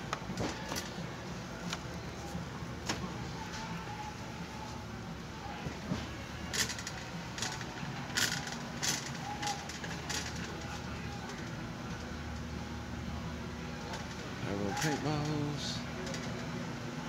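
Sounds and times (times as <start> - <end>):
indoor room hum: 0.0 - 17.0.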